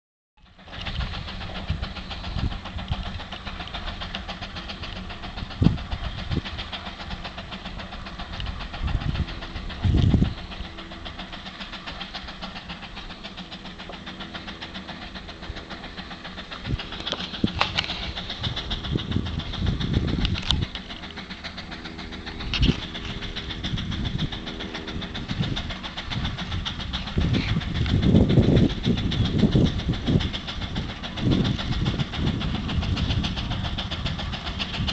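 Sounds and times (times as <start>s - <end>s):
low rumbling bursts: 0.4s - 34.9s.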